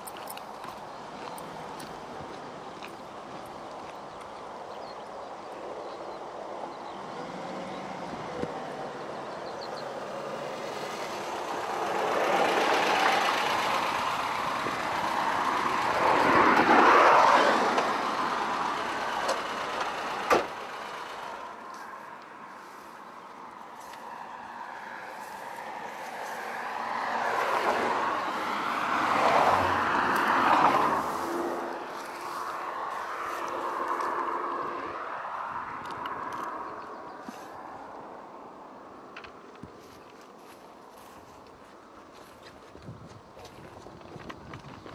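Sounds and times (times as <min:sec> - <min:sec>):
cars passing on road: 0:00.0 - 0:44.9.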